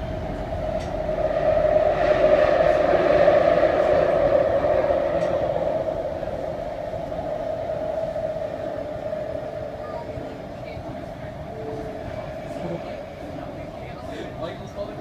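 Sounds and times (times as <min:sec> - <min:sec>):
steady hum: 0:00.0 - 0:14.6
train rumbling in tunnel: 0:00.0 - 0:15.0.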